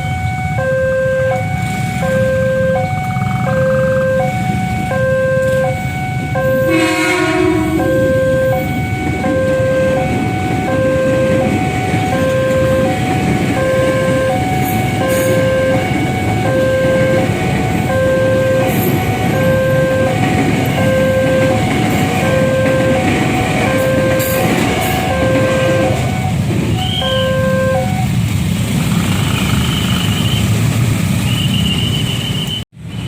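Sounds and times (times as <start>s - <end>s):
two-tone level crossing alarm: 0.0s - 28.2s.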